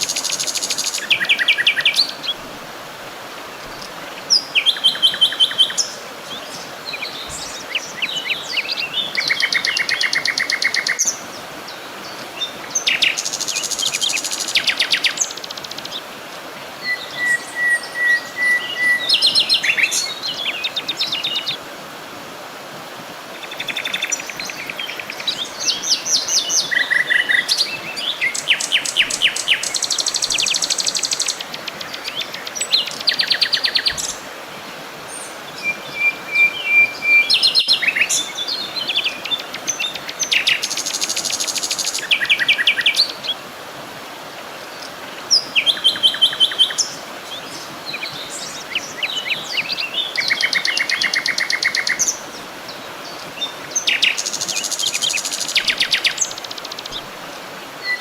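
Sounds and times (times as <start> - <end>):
songbirds trilling and chirping: 0.0 - 21.7, 23.2 - 43.5, 44.2 - 58.0
steady background hiss: 0.0 - 58.0.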